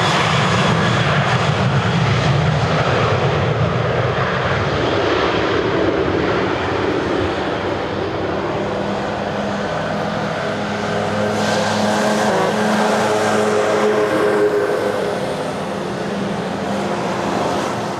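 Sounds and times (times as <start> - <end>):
jet engines roaring: 0.0 - 17.9.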